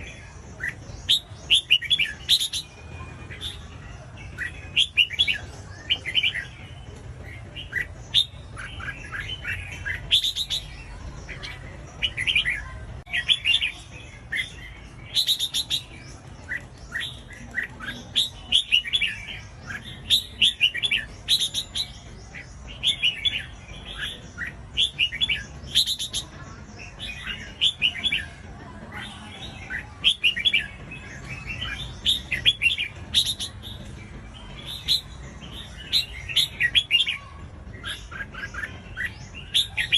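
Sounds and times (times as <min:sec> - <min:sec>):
bulbul singing warbled phrases: 0:00.0 - 0:39.9.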